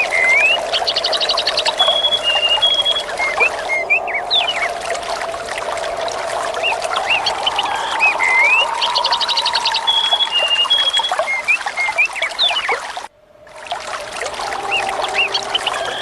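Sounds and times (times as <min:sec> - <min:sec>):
running water: 0:00.0 - 0:16.0
songbirds chirping and trilling: 0:00.0 - 0:16.0.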